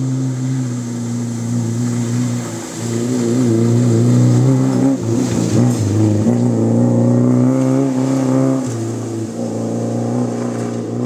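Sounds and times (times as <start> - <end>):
rally car engine accelerating past: 0.0 - 11.0.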